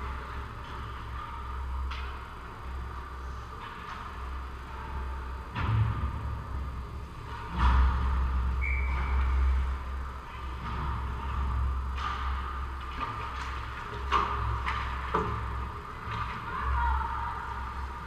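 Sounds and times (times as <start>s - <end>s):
low rink rumble and hum: 0.0s - 18.0s.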